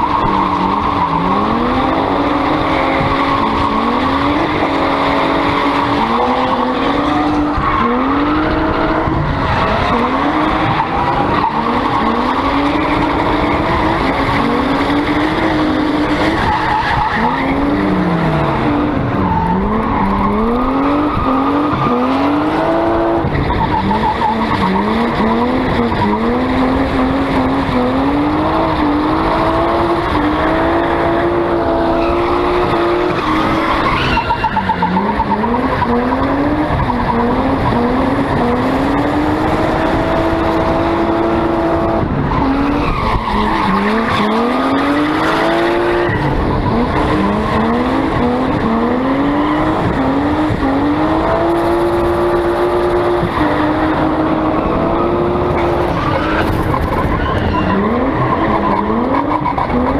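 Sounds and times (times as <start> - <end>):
car engine revving hard: 0.0 - 59.9
tyres skidding and squealing: 0.0 - 59.9.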